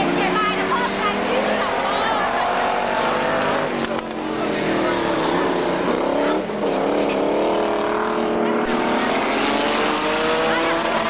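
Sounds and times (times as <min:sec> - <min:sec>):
race car engines revving high: 0:00.0 - 0:11.0.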